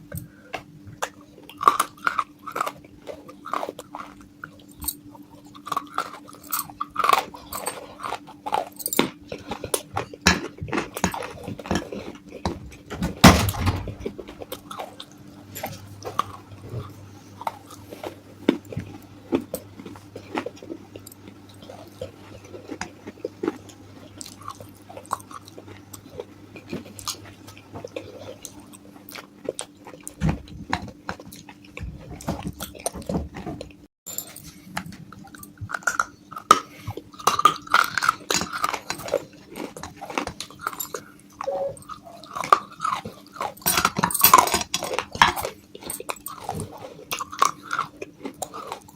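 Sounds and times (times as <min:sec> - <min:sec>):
chewing crunchy clay pieces: 0:00.0 - 0:48.9
faint low hum: 0:00.0 - 0:48.9.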